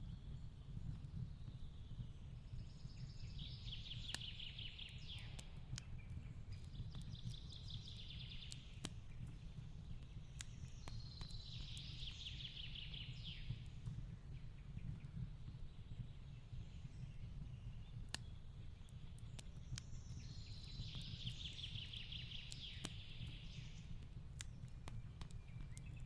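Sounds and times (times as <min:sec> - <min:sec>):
fireplace crackling and popping: 0:00.0 - 0:26.0.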